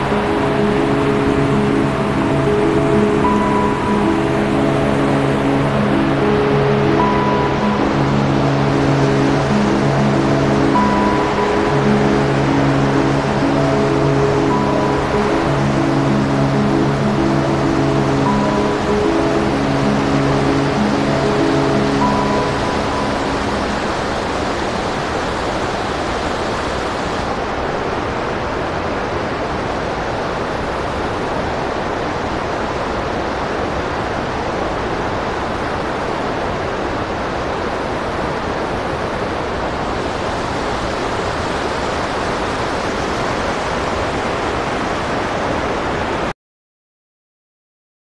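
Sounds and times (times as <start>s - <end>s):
river rushing over boulders: 0.0s - 46.3s.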